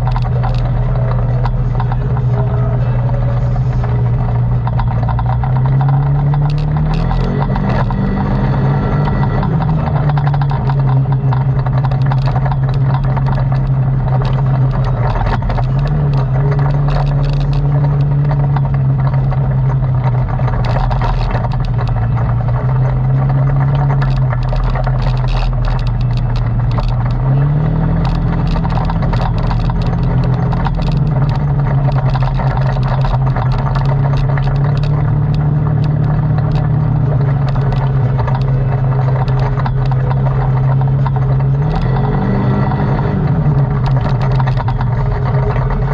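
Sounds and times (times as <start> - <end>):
atv engine running: 0.0 - 45.9
clicks and rattles: 0.0 - 45.9.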